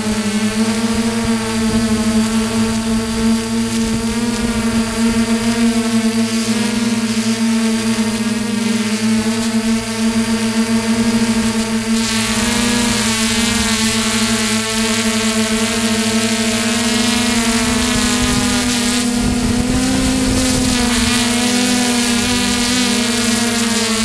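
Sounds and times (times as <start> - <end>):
drone motors buzzing: 0.0 - 24.0
wind rumbling on microphone: 0.5 - 6.4, 9.6 - 24.0.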